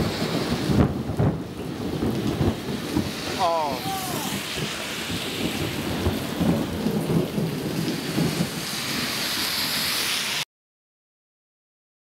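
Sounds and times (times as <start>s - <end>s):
heavy rain falling: 0.0s - 10.4s
thunder rumbling: 0.0s - 10.4s.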